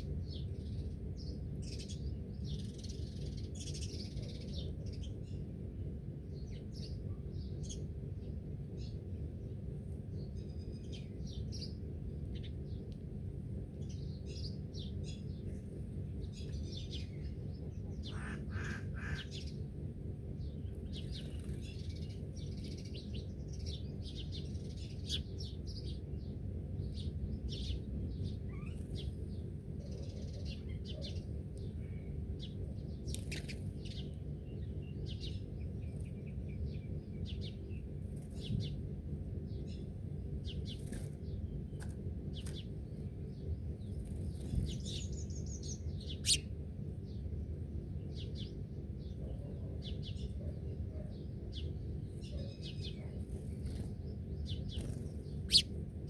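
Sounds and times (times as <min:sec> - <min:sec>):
birds chirping: 0:00.0 - 0:56.0
low background rumble: 0:00.0 - 0:56.0.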